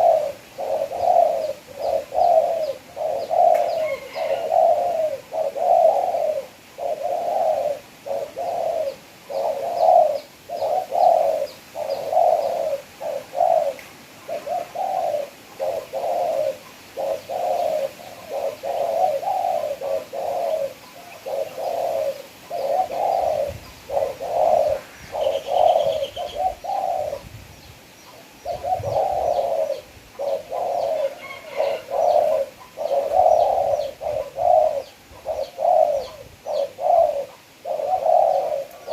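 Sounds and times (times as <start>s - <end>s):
dove cooing: 0.0s - 27.4s, 28.0s - 38.9s
small birds chirping: 0.0s - 38.9s.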